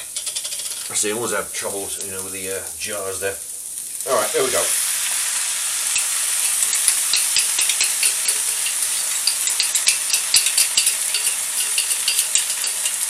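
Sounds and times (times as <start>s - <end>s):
food sizzling in a hot pan: 0.0s - 13.0s
stirring crackles and scrapes: 0.0s - 13.0s.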